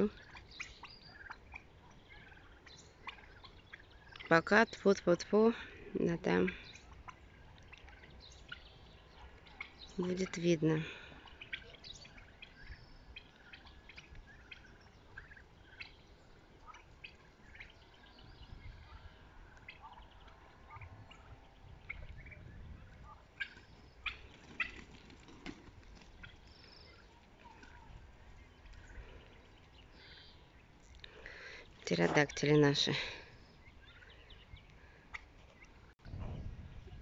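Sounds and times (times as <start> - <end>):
turkey poults peeping: 0.0 - 36.0.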